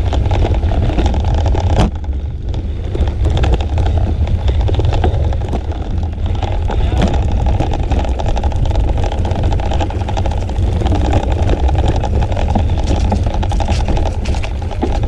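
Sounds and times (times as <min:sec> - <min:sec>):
road noise: 0:00.0 - 0:15.0
small rattling clicks: 0:00.0 - 0:15.0
wind rumble on microphone: 0:00.0 - 0:15.0.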